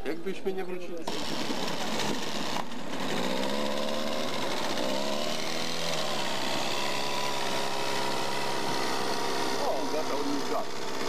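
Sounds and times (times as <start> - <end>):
two-stroke outboard motor running: 1.1 - 11.0.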